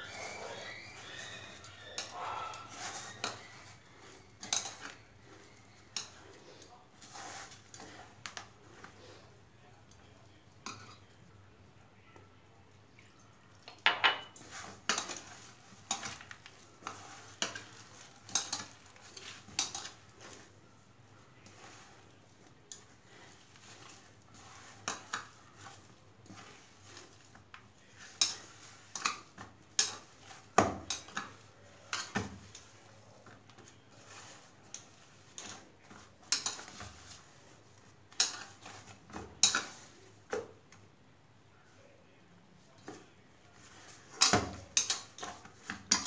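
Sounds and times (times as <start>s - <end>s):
hands kneading dough in metal bowl: 0.0s - 9.4s, 14.2s - 40.8s, 42.6s - 46.0s.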